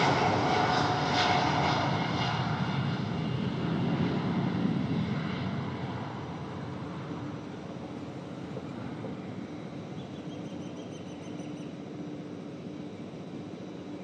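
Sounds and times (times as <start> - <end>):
jet engines rumbling on runway: 0.0 - 14.0.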